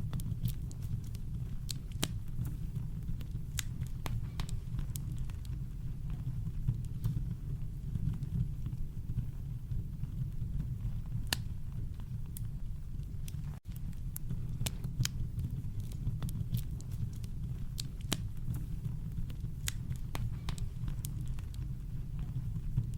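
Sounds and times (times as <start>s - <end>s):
campfire crackling and popping: 0.0s - 22.9s.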